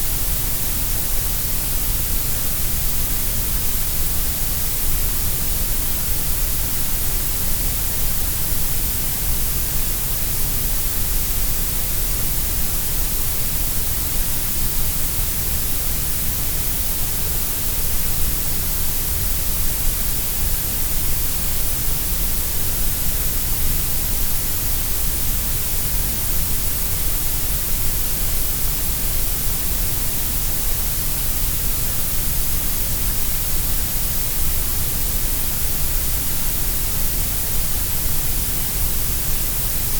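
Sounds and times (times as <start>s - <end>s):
steady grey noise hiss: 0.0s - 39.9s.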